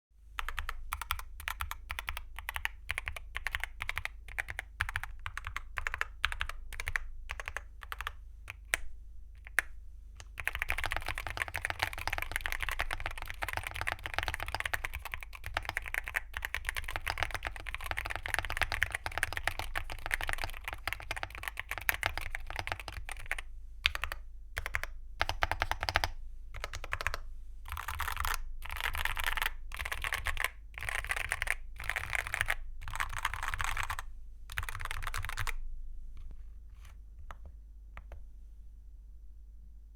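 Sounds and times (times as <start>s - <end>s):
typing on keyboard: 0.4s - 35.6s.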